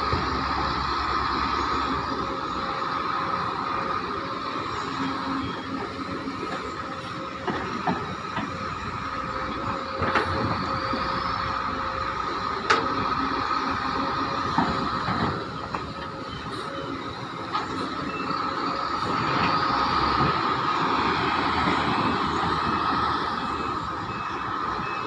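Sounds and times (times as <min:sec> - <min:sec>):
constant high whine: 0:00.0 - 0:25.0
excavator diesel engine running: 0:00.0 - 0:25.0.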